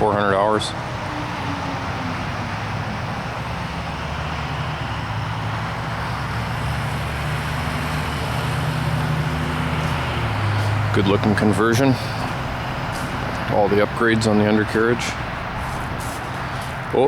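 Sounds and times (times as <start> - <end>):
machine engine humming: 0.0 - 17.0.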